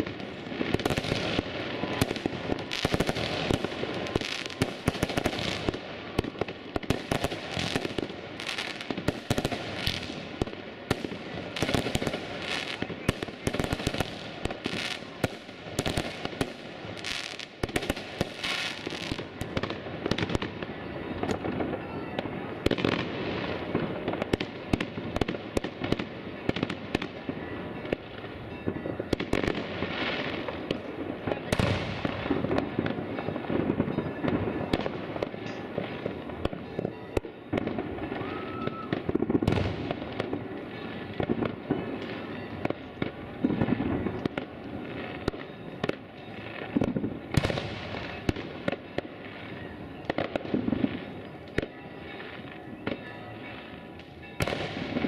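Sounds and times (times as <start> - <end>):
firework whistles: 0.0 - 55.0
fireworks crackling: 0.0 - 55.0.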